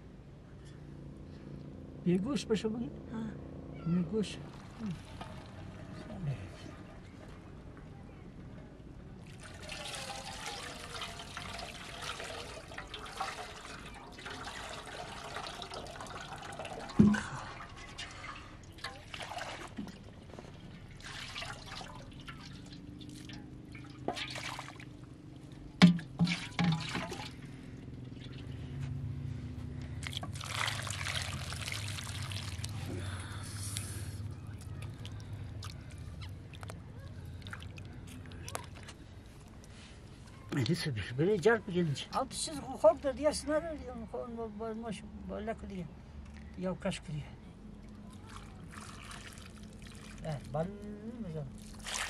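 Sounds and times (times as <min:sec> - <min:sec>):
water splashing and trickling: 0:04.1 - 0:07.7, 0:09.2 - 0:45.8, 0:46.6 - 0:52.0.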